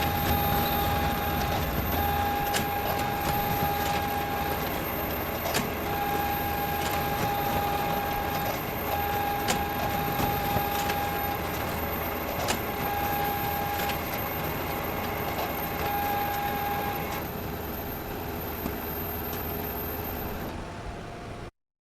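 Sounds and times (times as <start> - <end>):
photocopier whirring: 0.0 - 20.6
photocopier whine: 0.0 - 21.4.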